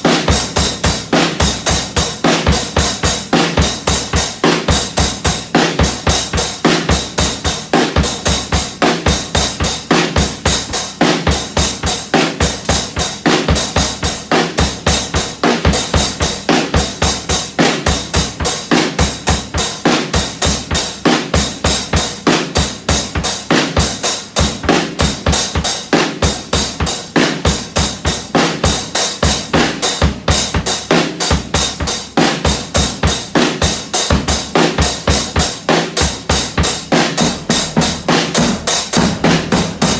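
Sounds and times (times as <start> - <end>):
drum kit fast beat: 0.0 - 39.9.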